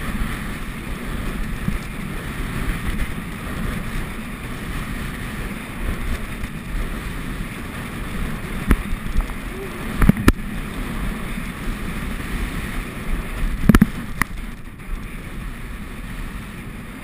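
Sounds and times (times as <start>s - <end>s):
skis sliding on snow: 0.0s - 17.0s
wind rushing over microphone: 0.0s - 17.0s.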